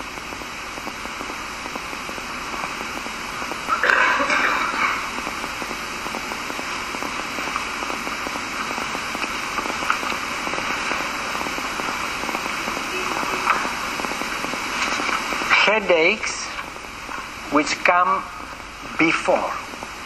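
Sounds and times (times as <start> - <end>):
steady hiss with crackling: 0.0 - 20.0.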